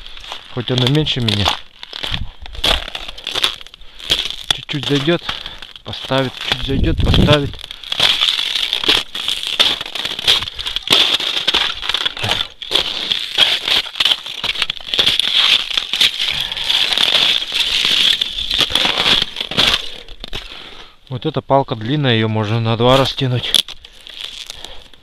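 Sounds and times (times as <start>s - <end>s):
boots crunching on frozen snow: 0.0s - 21.0s, 22.9s - 24.9s.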